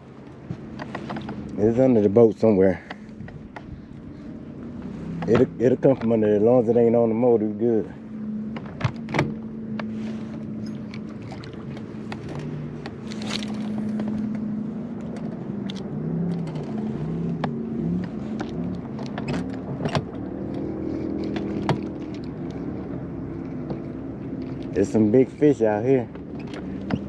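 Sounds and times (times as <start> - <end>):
boat motor humming: 0.0 - 27.0
clicks and knocks from boat: 0.1 - 4.0, 5.1 - 6.5, 8.5 - 27.0.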